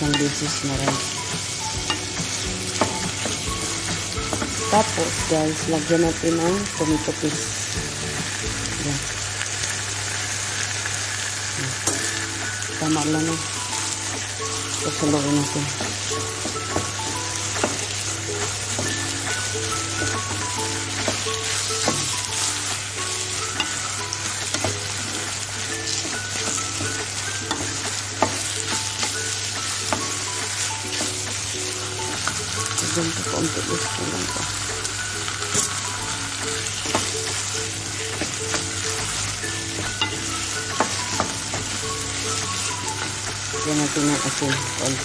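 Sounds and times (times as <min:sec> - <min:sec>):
vegetables sizzling in a pan: 0:00.0 - 0:45.0.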